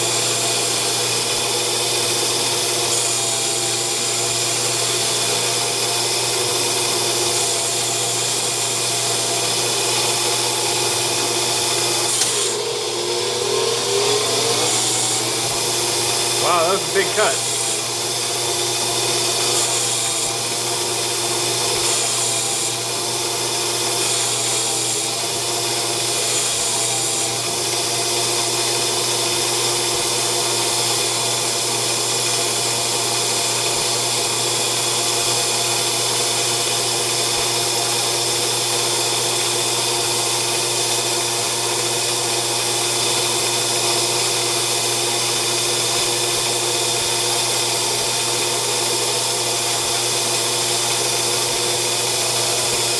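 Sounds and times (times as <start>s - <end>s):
metal lathe cutting aluminium: 0.0s - 32.4s, 36.1s - 52.9s.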